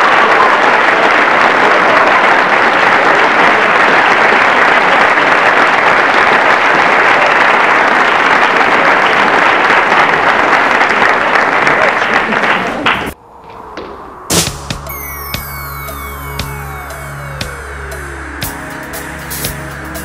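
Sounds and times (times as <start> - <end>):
crowd applauding: 0.0 - 13.2, 14.9 - 18.6.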